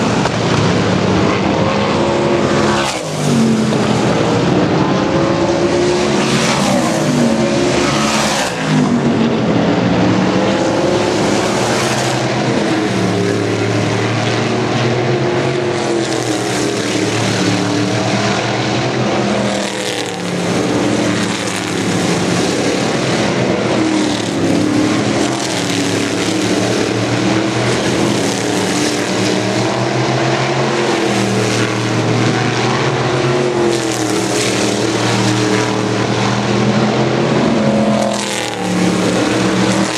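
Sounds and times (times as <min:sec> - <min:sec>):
racing car engines passing: 0:00.0 - 0:39.9.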